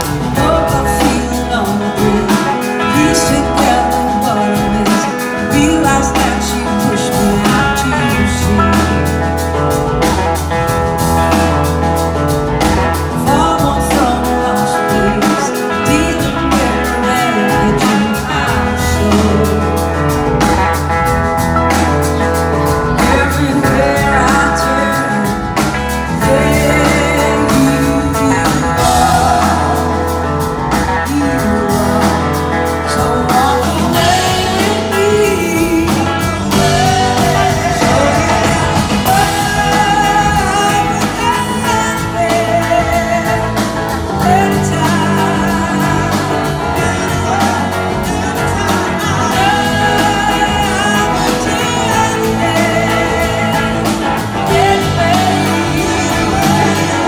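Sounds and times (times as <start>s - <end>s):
live blues-rock band with horns: 0.0s - 57.0s
woman singing lead vocal: 0.0s - 57.0s.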